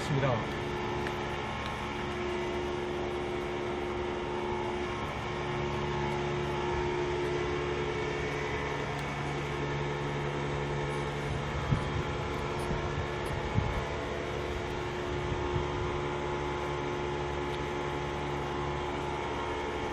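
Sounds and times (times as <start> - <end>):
machinery humming: 0.0 - 19.9
steady tones: 0.0 - 19.9.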